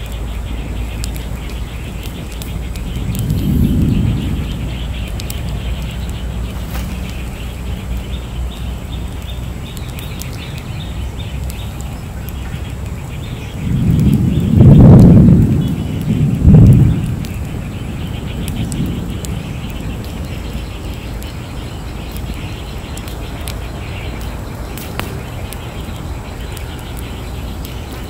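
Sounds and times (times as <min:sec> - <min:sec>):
birds calling: 0:00.0 - 0:28.0
steady low rumble: 0:00.0 - 0:28.0.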